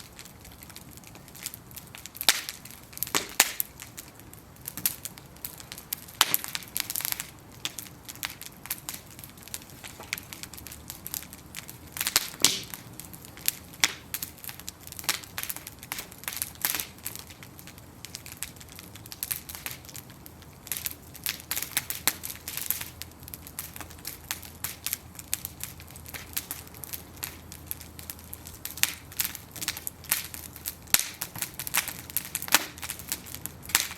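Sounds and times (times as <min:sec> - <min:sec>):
bonfire crackling: 0:00.0 - 0:33.9
hiss of flames: 0:00.0 - 0:33.9.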